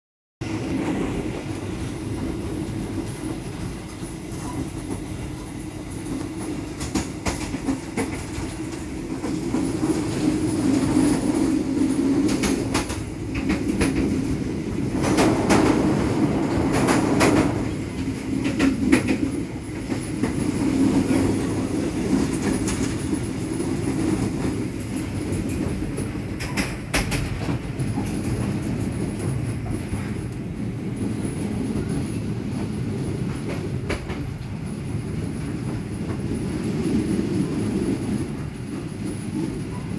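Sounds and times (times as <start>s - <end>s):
train running rumble: 0.4s - 39.9s.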